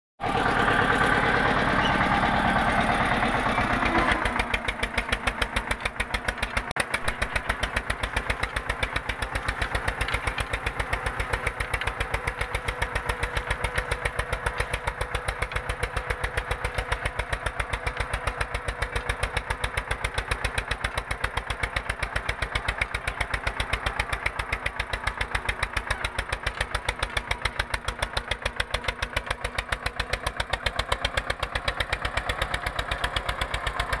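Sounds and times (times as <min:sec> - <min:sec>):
tractor diesel engine under load: 0:00.2 - 0:34.0.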